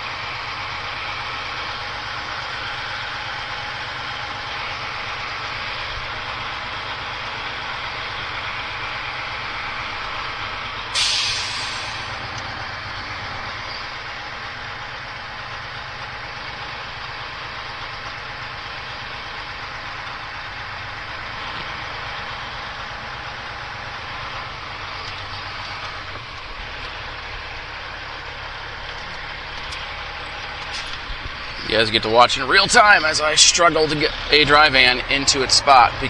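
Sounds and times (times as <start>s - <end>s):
truck diesel engine idling: 0.0s - 36.0s.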